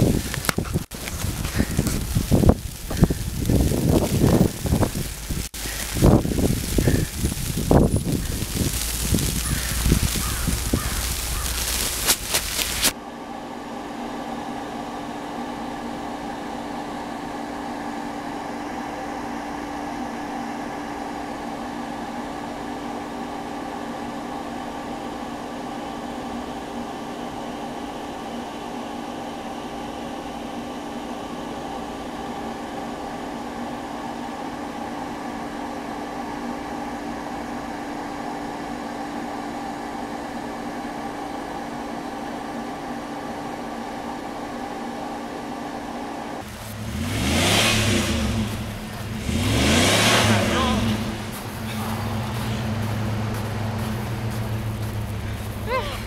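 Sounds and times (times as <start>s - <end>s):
motor or fan humming: 0.0s - 56.0s.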